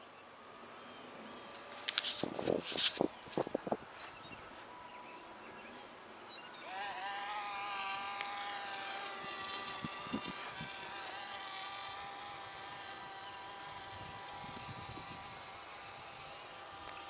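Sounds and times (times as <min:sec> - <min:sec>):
model airplane motor whine: 0:00.0 - 0:17.0.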